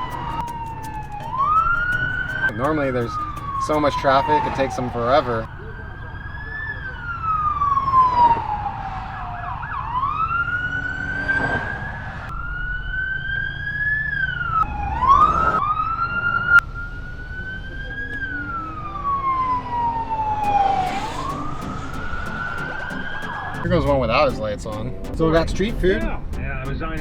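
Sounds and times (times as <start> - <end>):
emergency vehicle siren wailing: 0.0 - 27.0
low road rumble: 0.0 - 27.0
second siren tone: 0.0 - 27.0.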